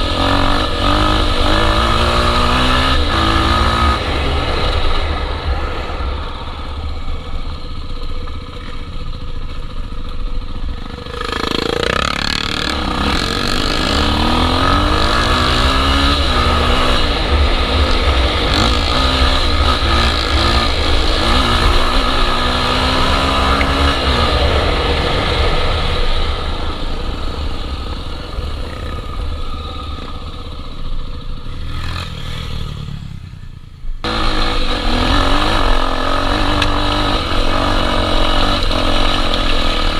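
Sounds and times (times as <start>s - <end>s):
dirt bike engine revving: 0.0s - 5.6s, 10.7s - 30.6s, 31.4s - 39.9s.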